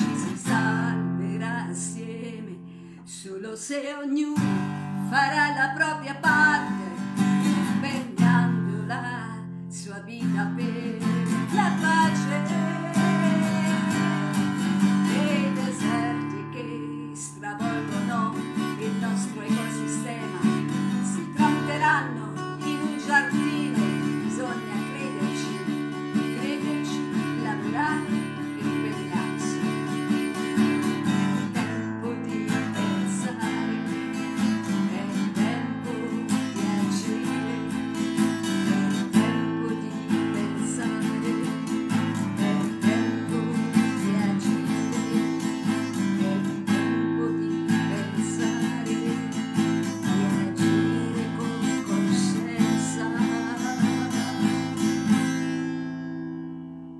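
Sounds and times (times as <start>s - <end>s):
acoustic guitar strumming: 0.0s - 3.0s, 3.8s - 56.9s
woman singing: 0.0s - 56.3s.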